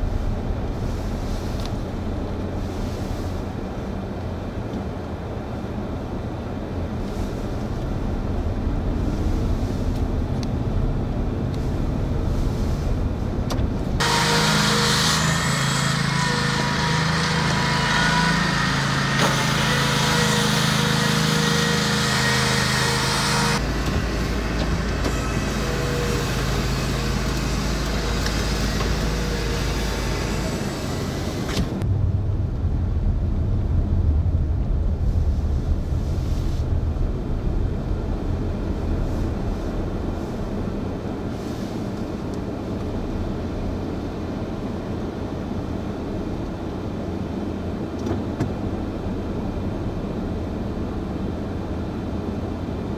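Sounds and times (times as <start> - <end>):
car road and engine noise: 0.0 - 52.9.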